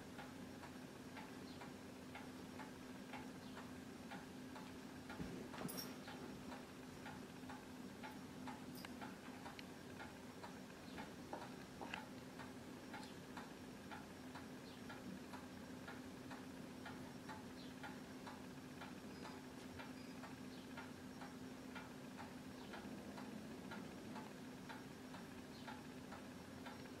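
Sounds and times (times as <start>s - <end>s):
low steady hum: 0.0s - 27.0s
clock ticking: 0.2s - 5.2s, 6.0s - 27.0s.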